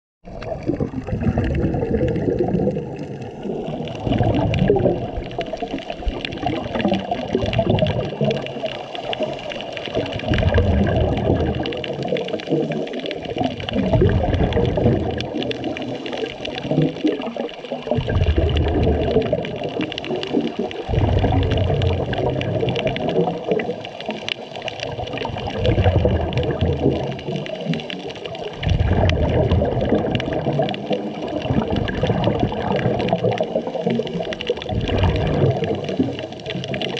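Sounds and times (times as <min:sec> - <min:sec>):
exhaled bubbles underwater: 0:00.2 - 0:36.9
steady underwater hiss: 0:01.0 - 0:36.9.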